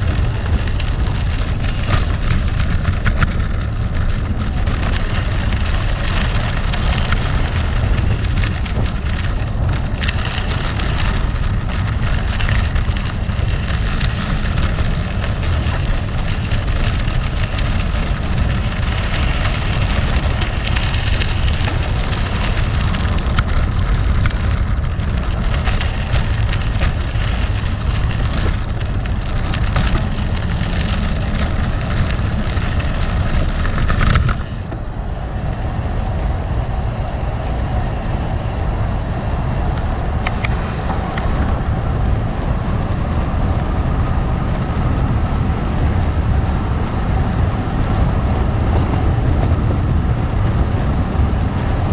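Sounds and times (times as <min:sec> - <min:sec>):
bike clicks and rattles: 0:00.0 - 0:51.9
bike tyres rolling over gravel: 0:00.0 - 0:51.9
wind rumbling on microphone: 0:00.0 - 0:51.9.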